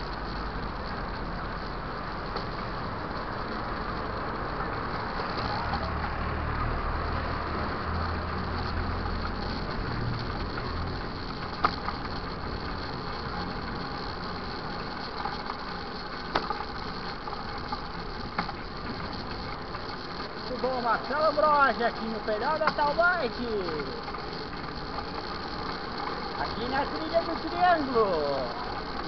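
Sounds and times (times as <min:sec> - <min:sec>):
constant rushing noise: 0:00.0 - 0:29.0
engine running with low hum: 0:00.0 - 0:29.0.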